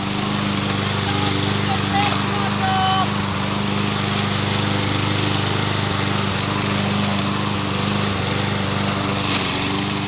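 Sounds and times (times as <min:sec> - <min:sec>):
lawnmower engine running: 0:00.0 - 0:10.0.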